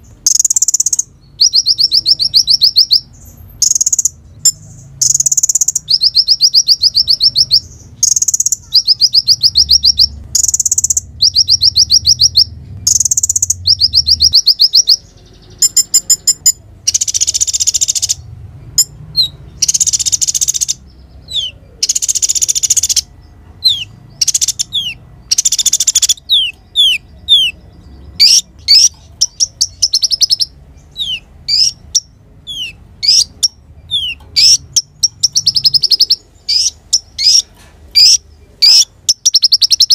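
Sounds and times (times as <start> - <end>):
bird sharp chirps: 0.0 - 39.9
bird trilled song: 0.0 - 39.9.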